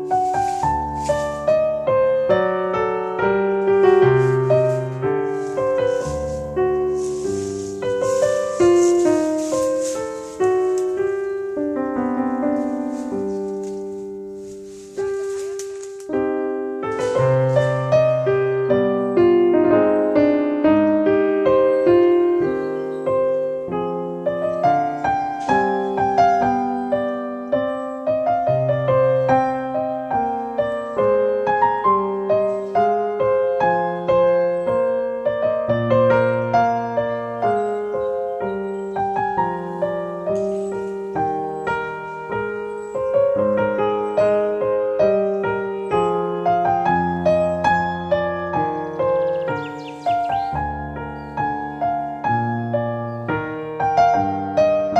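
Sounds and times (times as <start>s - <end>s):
slow piano melody: 0.0s - 54.9s.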